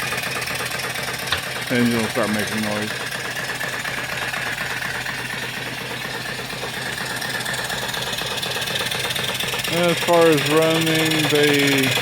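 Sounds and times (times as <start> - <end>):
steam engine beating: 0.0 - 12.0.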